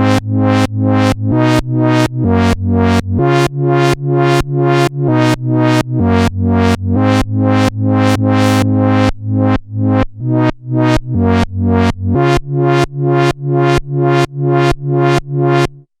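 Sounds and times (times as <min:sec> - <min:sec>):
synthesizer bass pattern: 0:00.0 - 0:15.9.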